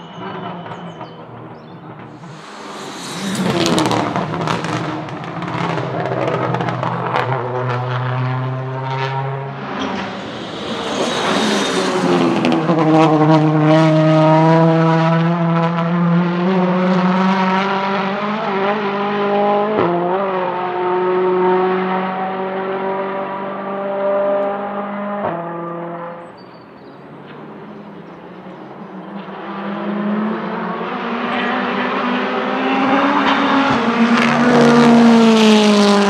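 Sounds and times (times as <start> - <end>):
race car engine passing: 0.0 - 26.3, 27.1 - 36.0.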